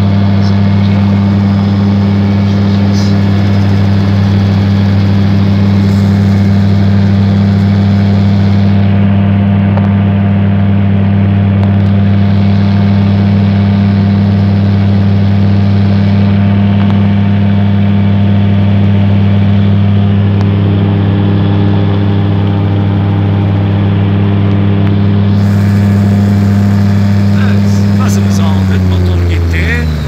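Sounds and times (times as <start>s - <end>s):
aircraft engine and propeller hum: 0.0s - 30.0s.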